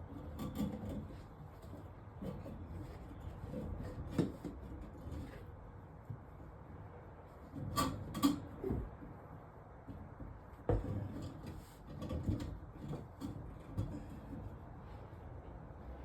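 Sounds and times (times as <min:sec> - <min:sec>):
plumbing parts knocking and rubbing: 0:00.0 - 0:06.5, 0:07.3 - 0:15.9.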